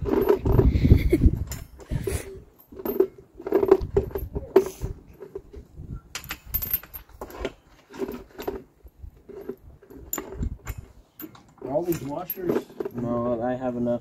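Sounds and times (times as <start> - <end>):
metal nuts and washers clinking: 0.0 - 13.5.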